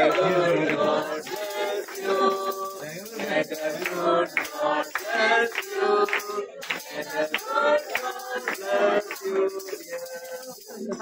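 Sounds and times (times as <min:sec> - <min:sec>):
group of people singing: 0:00.0 - 0:11.0.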